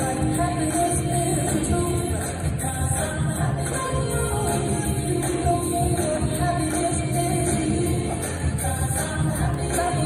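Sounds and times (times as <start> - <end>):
song with vocals over speakers: 0.0 - 10.0.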